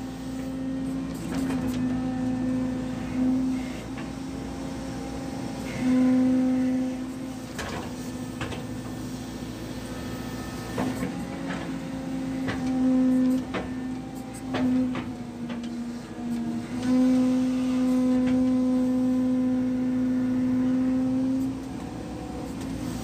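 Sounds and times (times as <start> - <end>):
excavator engine and hydraulics hum: 0.0 - 23.0.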